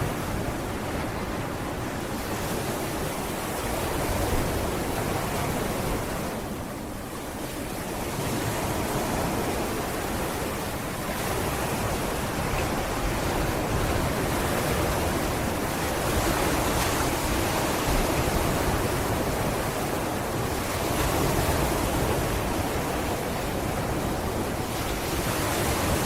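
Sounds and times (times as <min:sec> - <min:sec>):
waves washing onto beach: 0:00.0 - 0:26.0.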